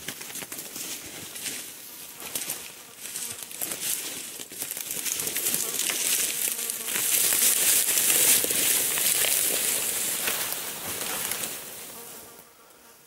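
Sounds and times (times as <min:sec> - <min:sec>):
branches scraping and snapping: 0:00.0 - 0:12.1
footsteps crunching through dry leaves: 0:00.1 - 0:12.0.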